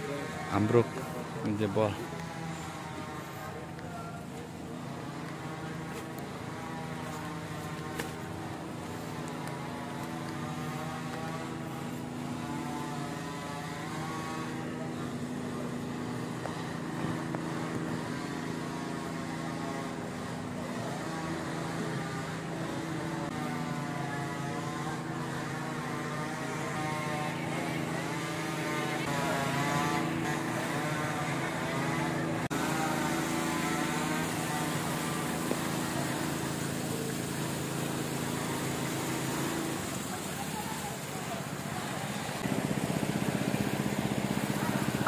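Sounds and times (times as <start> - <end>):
small engine running: 0.0 - 45.0.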